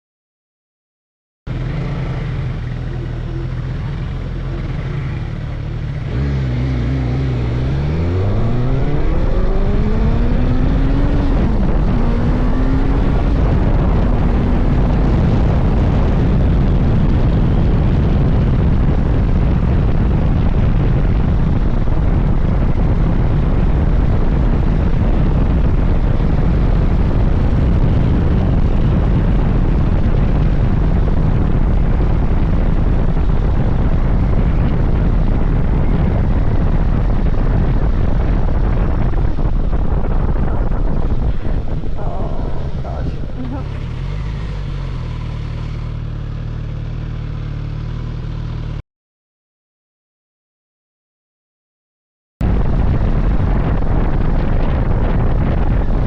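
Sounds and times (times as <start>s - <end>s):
motorcycle engine accelerating: 1.5s - 48.8s, 52.4s - 56.0s
wind rushing over microphone: 1.6s - 46.3s, 52.4s - 56.0s.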